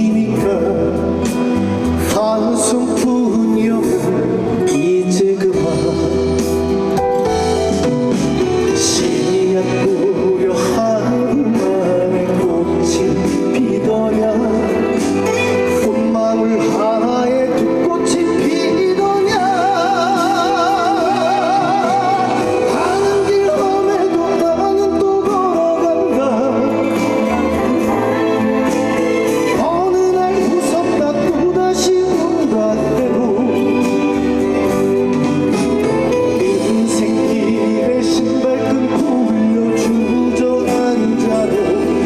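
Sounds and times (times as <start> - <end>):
live song through loudspeakers: 0.0 - 42.0.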